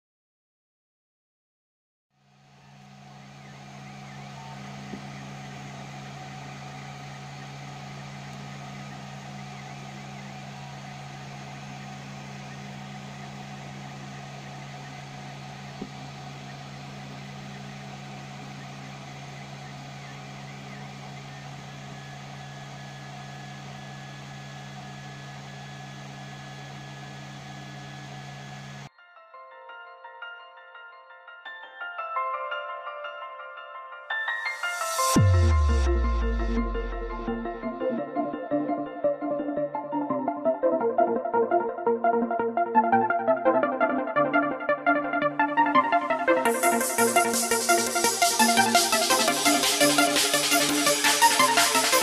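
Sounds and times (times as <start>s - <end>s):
cooling fans whirring: 2.3s - 28.9s, 35.0s - 52.0s
low hum: 2.3s - 28.9s, 35.0s - 52.0s.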